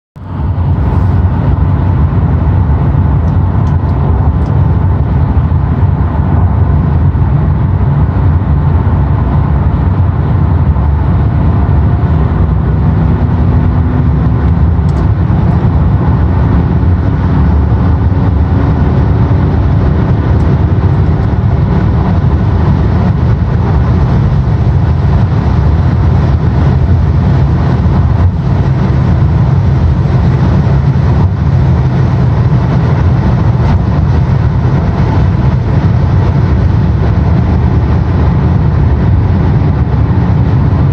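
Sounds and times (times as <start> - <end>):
diesel engine drone: 0.2 - 40.9
wind and road noise: 0.2 - 40.9.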